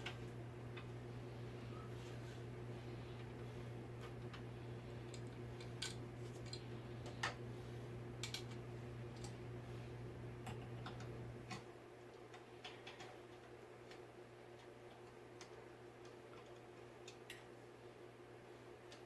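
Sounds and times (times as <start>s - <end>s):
fan parts clicking and tapping: 0.0s - 1.0s, 1.7s - 9.5s, 10.4s - 17.5s
steady low hum: 0.0s - 19.0s.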